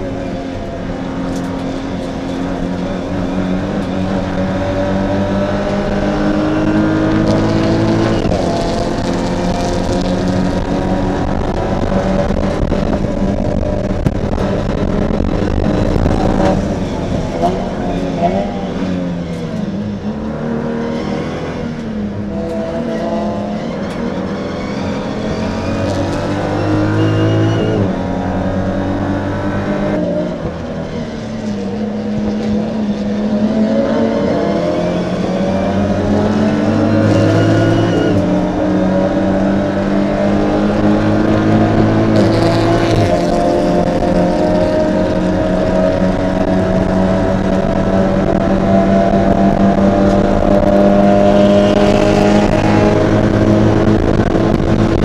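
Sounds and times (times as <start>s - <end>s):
race car engine revving through gears: 0.0s - 55.0s.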